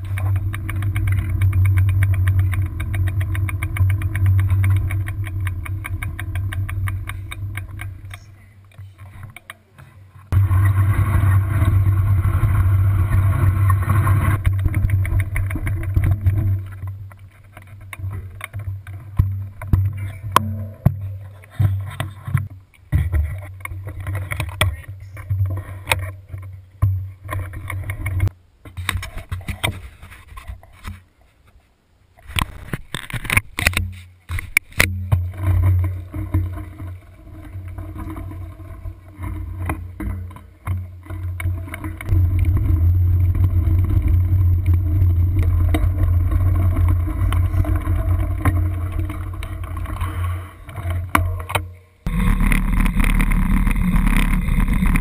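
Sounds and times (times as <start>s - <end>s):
wind rumbling on microphone: 0.0s - 28.4s, 34.4s - 55.0s
knocks and rattles: 0.0s - 30.2s, 32.3s - 55.0s.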